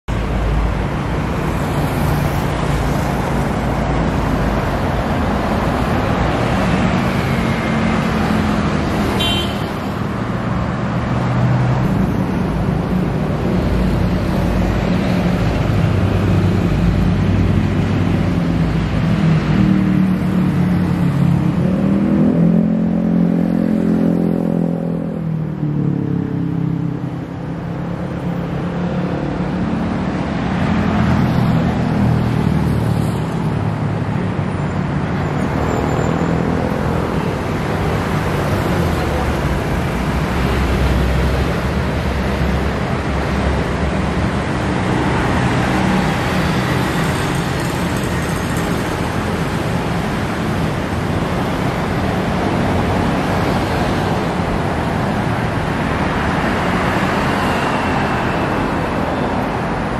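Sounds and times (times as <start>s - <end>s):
road traffic passing: 0.1s - 59.9s.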